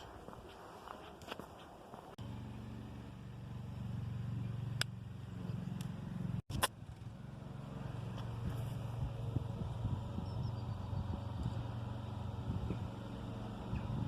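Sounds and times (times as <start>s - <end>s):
vehicle engine running: 2.0s - 14.0s.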